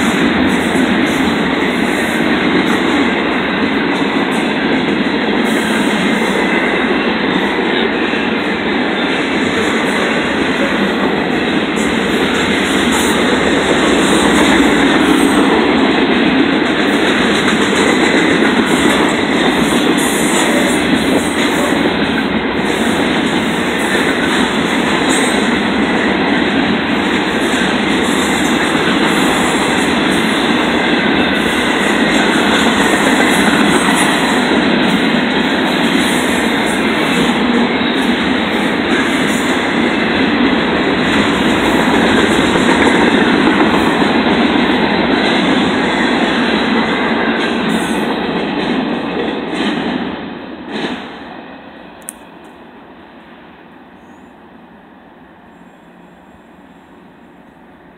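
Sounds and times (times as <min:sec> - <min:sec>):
train wheels rolling on rails: 0:00.0 - 0:57.9.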